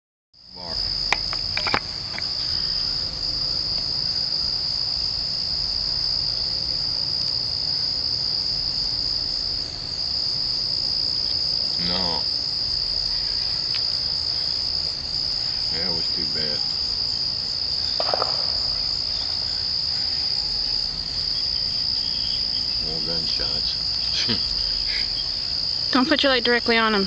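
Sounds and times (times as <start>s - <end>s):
insects trilling: 0.4s - 27.0s.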